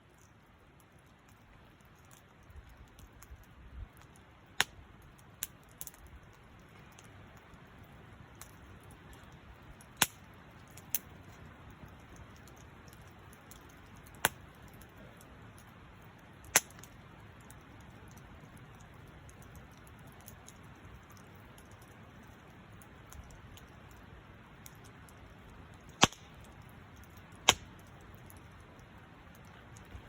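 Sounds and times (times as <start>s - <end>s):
burning wood popping: 0.0s - 30.0s
campfire crackling: 0.0s - 30.0s.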